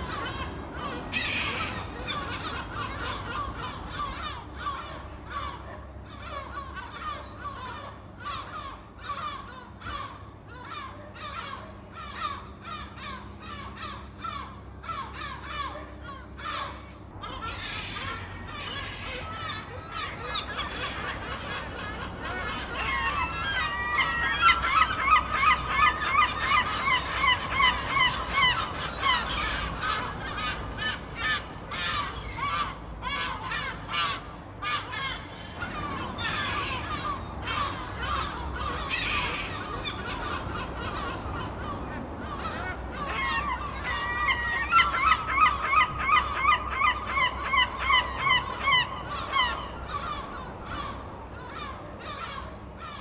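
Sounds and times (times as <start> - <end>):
seagulls squawking: 0.0 - 53.0.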